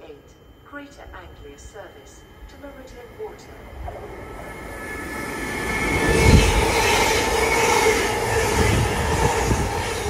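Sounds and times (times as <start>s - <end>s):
electric train passing: 0.0s - 10.0s
electric whine: 0.0s - 10.0s.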